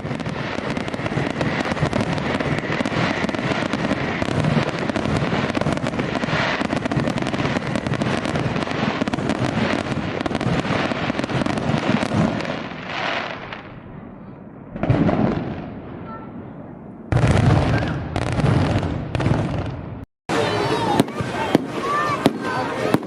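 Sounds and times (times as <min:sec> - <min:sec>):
fireworks popping and crackling: 0:00.0 - 0:13.9, 0:14.7 - 0:16.3, 0:17.1 - 0:23.0.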